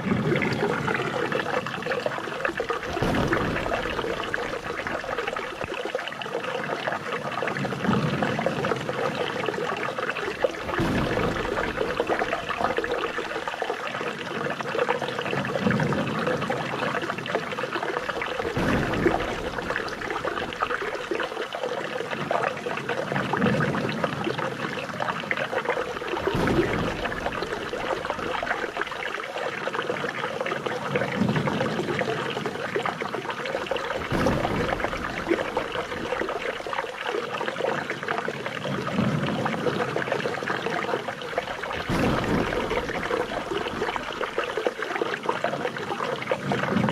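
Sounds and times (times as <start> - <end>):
water trickling and splashing: 0.0 - 46.9.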